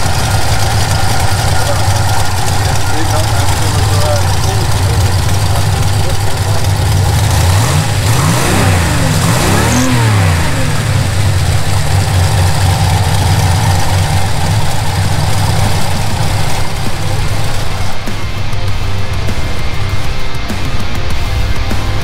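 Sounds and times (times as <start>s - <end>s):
car engine idling and revving: 0.0s - 22.0s
faint engine whine: 0.0s - 22.0s.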